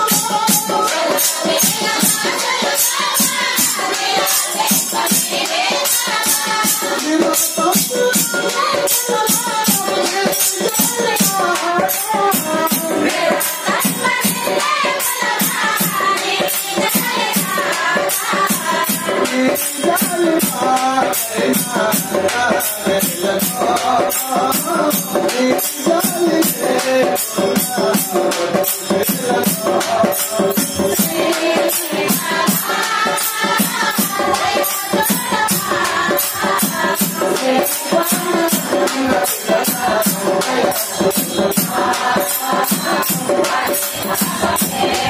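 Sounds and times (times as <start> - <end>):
group singing devotional song: 0.0 - 45.0
jingling hand percussion: 0.0 - 45.0.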